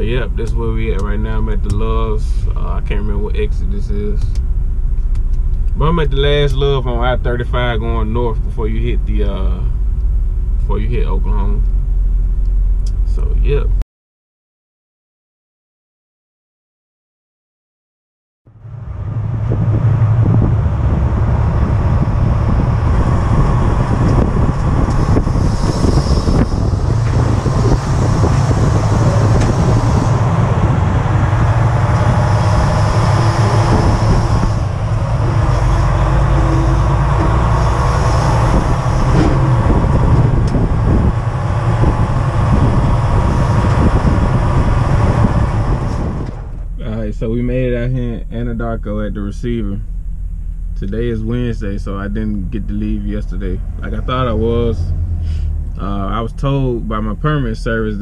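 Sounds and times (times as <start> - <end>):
truck tyres road and wind noise: 0.0 - 13.8, 18.5 - 58.0.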